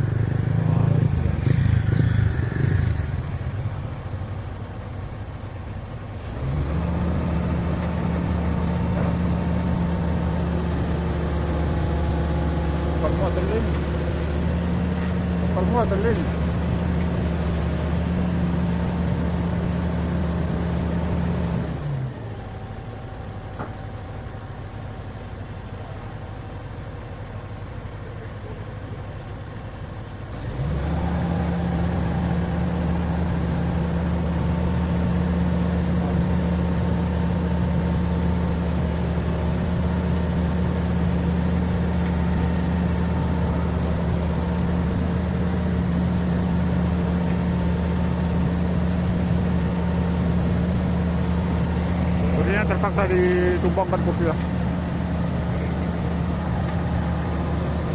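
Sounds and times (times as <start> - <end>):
diesel truck engine running: 0.0 - 57.9.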